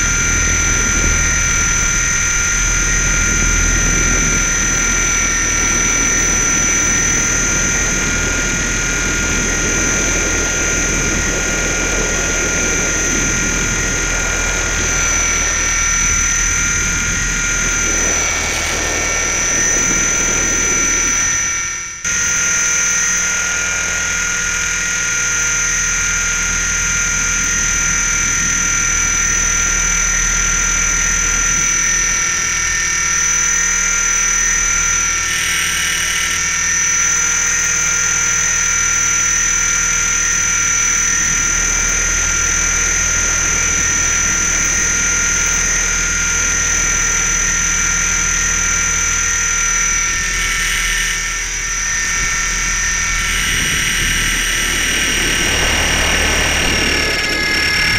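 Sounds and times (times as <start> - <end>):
helicopter motor whine: 0.0 - 57.9
rotor drone: 0.0 - 57.9.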